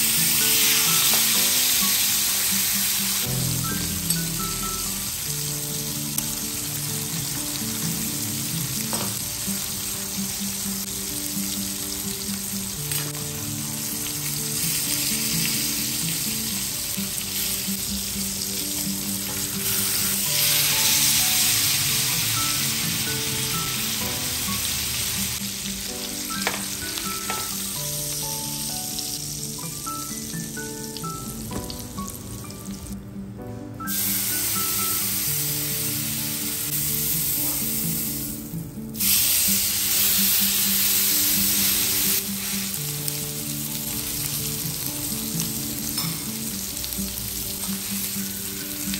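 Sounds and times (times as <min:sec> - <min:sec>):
steak sizzling in a pan: 0:00.0 - 0:32.3, 0:33.9 - 0:48.9
background music: 0:00.0 - 0:48.9.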